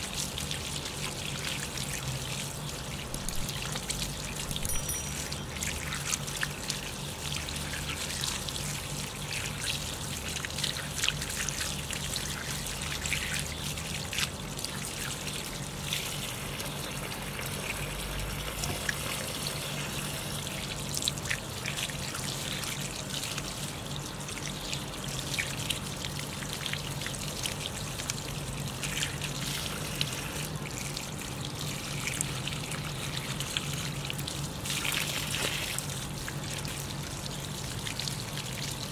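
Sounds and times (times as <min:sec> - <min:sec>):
water running from hose: 0:00.0 - 0:38.9
water pattering on leaves: 0:00.1 - 0:38.9.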